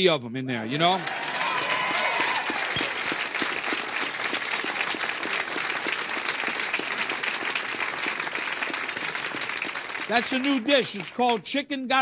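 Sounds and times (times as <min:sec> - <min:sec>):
audience applauding: 0:00.8 - 0:11.5.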